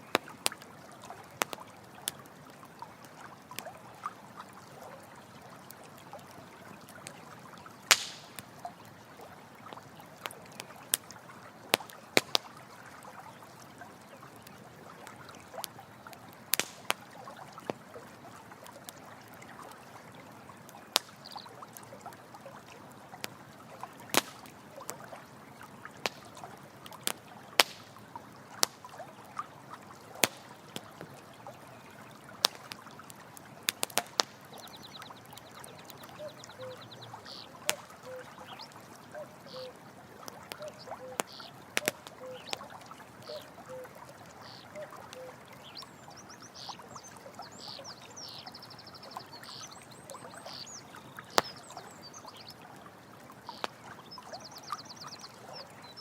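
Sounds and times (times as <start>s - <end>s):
campfire crackling and popping: 0.0s - 48.6s, 49.4s - 55.5s
stream trickling: 0.0s - 56.0s.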